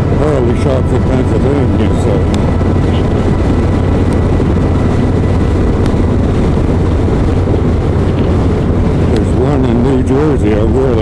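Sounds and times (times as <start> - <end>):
motorcycle engine drone: 0.0 - 11.0
road and wind noise: 0.0 - 11.0.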